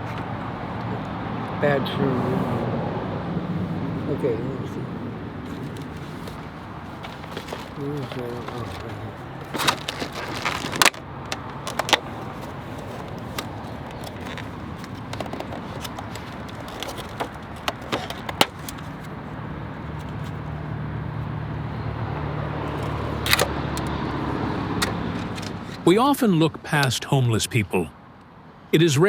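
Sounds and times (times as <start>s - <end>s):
passing vehicles rushing: 0.0s - 26.1s.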